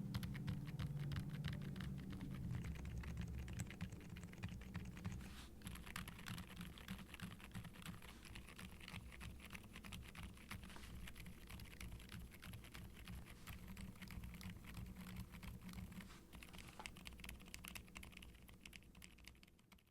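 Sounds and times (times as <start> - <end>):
soft muffled keyboard typing: 0.0 - 19.9.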